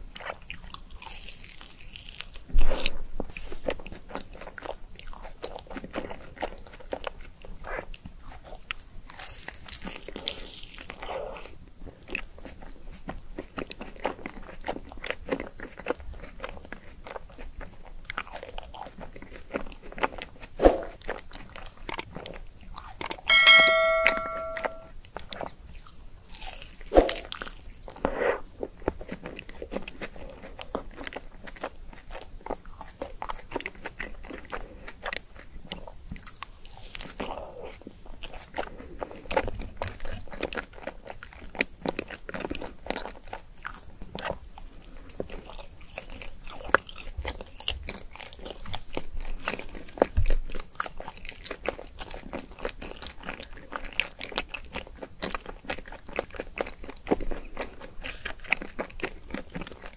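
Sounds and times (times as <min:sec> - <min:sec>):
crunchy chewing of sweets: 0:00.0 - 0:23.3, 0:25.0 - 0:59.9.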